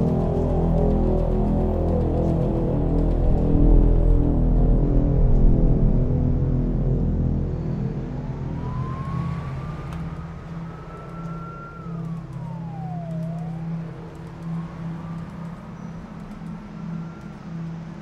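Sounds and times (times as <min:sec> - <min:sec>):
distant siren wailing: 0:00.0 - 0:18.0
low traffic rumble: 0:00.0 - 0:18.0.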